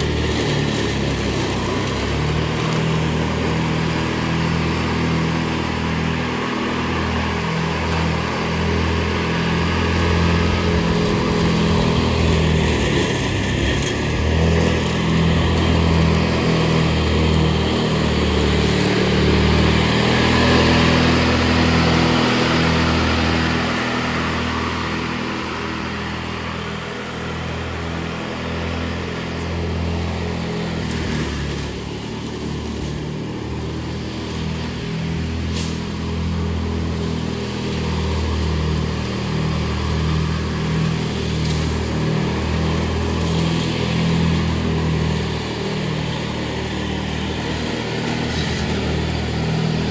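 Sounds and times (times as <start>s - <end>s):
riding lawn mower engine: 0.0s - 49.9s.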